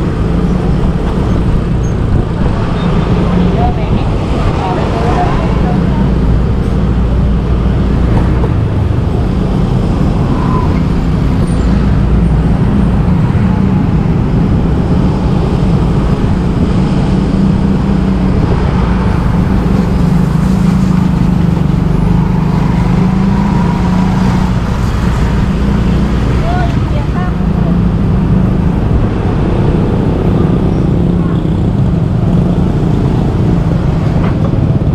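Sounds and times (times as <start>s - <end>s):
street traffic: 0.0s - 34.9s.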